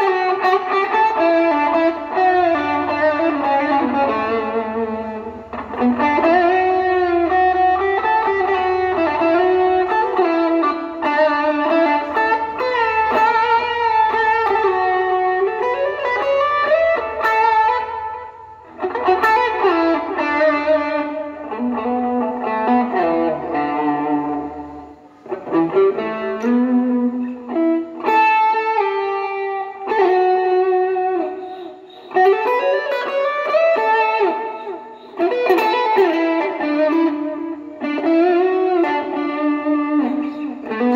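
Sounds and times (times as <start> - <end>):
overdriven electric guitar lead: 0.0 - 40.9.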